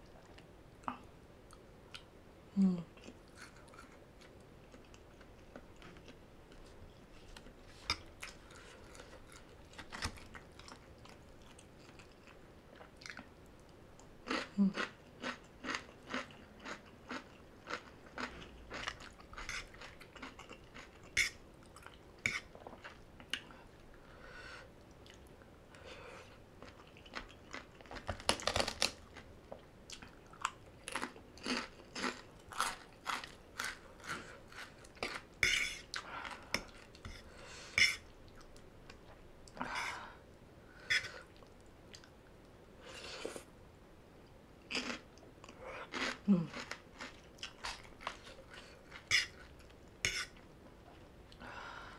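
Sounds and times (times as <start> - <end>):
person chewing food: 3.0 - 23.6, 24.8 - 40.0, 40.8 - 42.2, 44.7 - 51.4.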